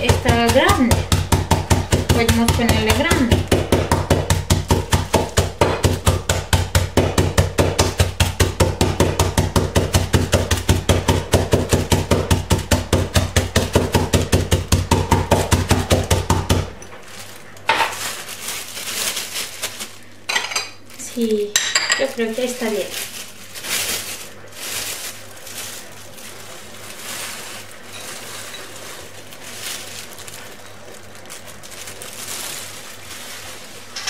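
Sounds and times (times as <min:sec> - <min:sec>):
glass pounding nuts in bag: 0:00.0 - 0:25.8, 0:26.9 - 0:34.0
plastic bag rustling: 0:00.0 - 0:34.0.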